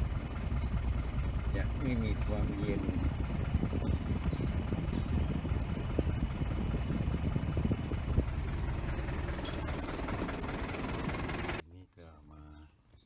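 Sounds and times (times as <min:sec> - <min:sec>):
pickup engine idling: 0:00.0 - 0:11.6.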